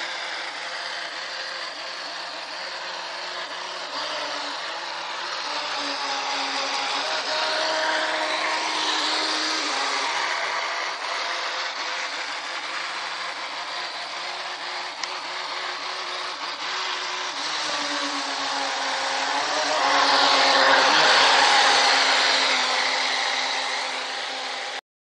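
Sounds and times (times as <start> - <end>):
model boat motor whining: 0.0 - 24.8.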